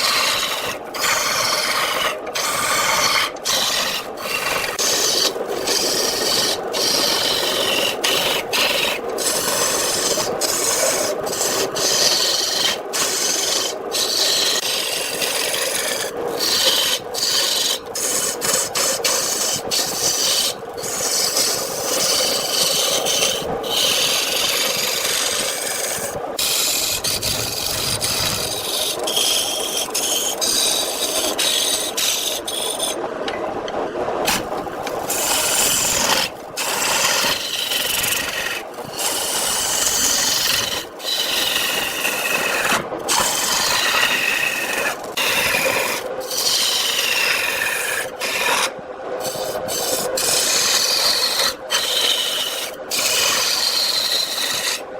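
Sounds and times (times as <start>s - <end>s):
lathe tool rasping wood: 0.0s - 33.0s, 34.2s - 54.9s.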